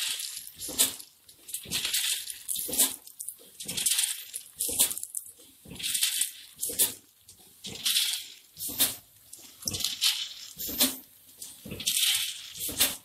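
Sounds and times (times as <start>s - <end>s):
dry snacks rattling in machine: 0.0s - 13.0s.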